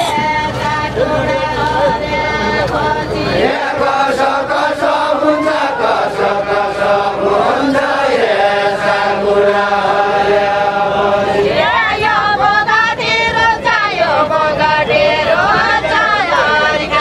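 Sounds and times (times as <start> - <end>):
men singing in unison: 0.0 - 17.0.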